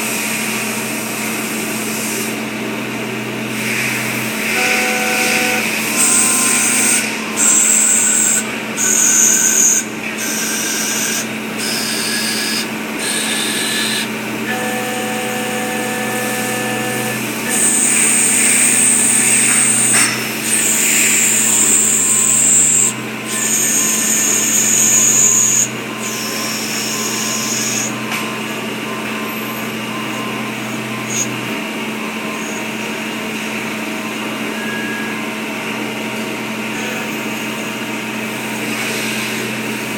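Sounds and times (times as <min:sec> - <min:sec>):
high-pitched machine whine: 0:00.0 - 0:39.9
machine hum: 0:00.6 - 0:39.9.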